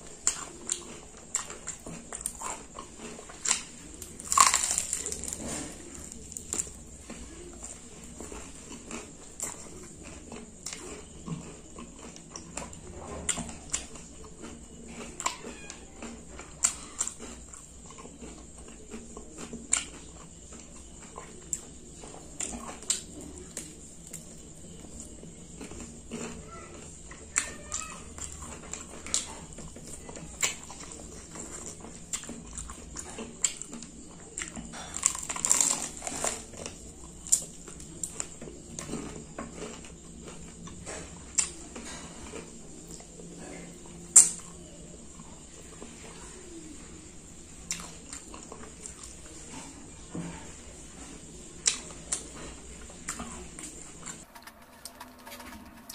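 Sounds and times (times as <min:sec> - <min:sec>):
chewing and mouth smacks: 0:00.0 - 0:43.3, 0:47.6 - 0:49.7, 0:51.0 - 0:55.9.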